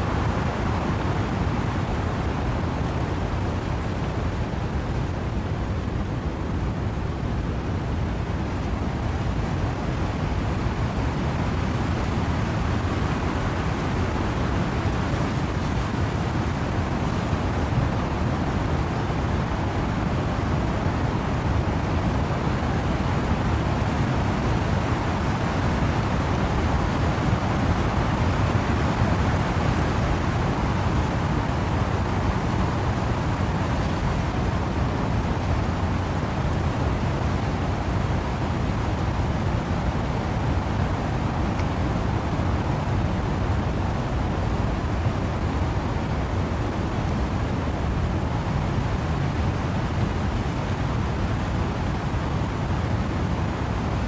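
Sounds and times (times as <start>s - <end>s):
rain falling in wind through trees: 0.0s - 54.0s.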